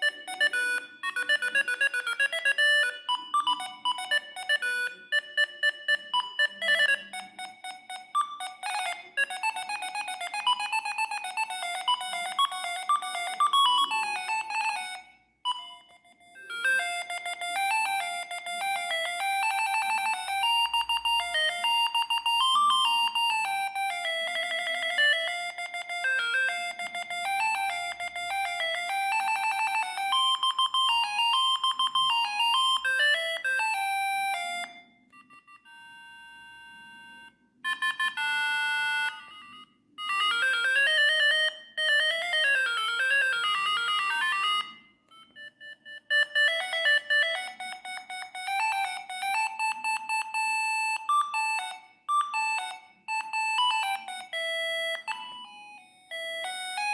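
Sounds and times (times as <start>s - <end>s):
beeping electronic ringtone melodies: 0.0s - 56.9s.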